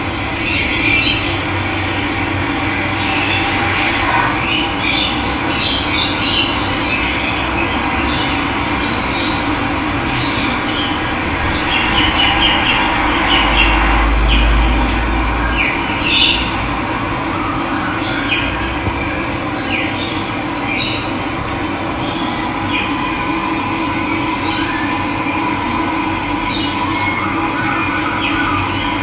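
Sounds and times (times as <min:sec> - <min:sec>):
low rumble: 0:00.0 - 0:17.2, 0:18.6 - 0:26.5.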